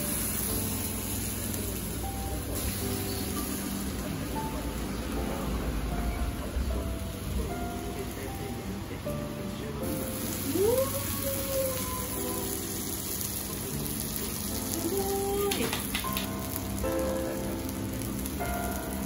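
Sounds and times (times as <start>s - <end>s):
background music: 0.0s - 19.0s
food sizzling on a griddle: 0.0s - 19.0s.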